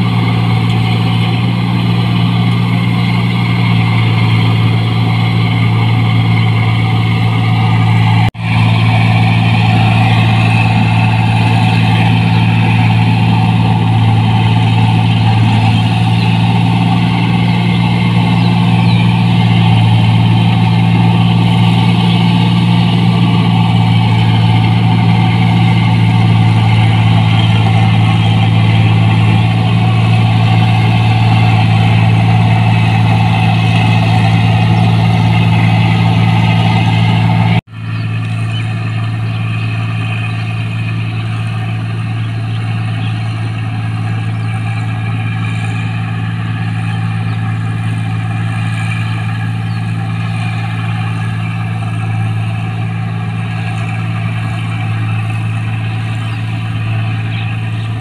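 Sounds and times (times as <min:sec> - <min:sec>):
combine harvester engine droning: 0:00.0 - 0:58.0
threshing machinery noise: 0:00.0 - 0:58.0.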